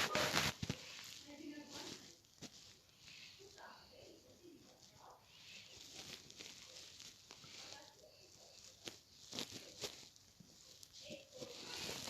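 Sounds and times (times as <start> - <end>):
faint rustling: 0.0 - 12.0.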